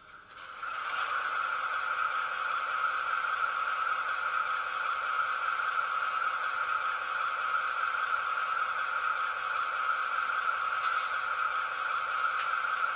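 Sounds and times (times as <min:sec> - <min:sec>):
diesel engine sound from small speaker: 0:00.0 - 0:12.9.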